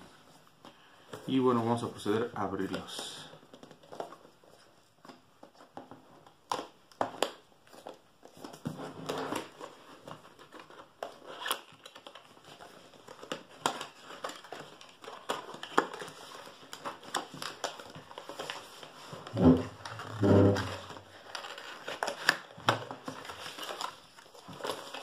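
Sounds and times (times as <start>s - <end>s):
cardboard rustling and crinkling: 2.5s - 25.0s.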